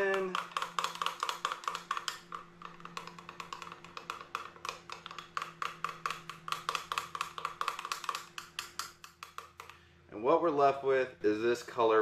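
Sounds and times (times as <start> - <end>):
utensil clinking against glass cup: 0.0 - 9.6
faint steady hum: 0.0 - 12.0.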